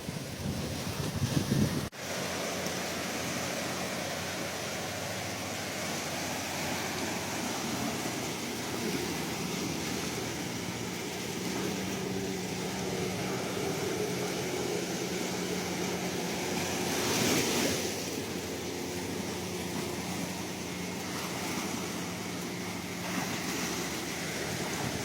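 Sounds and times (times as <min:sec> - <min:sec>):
loud wave breaking: 0:00.0 - 0:25.0
sea waves washing: 0:00.0 - 0:25.0.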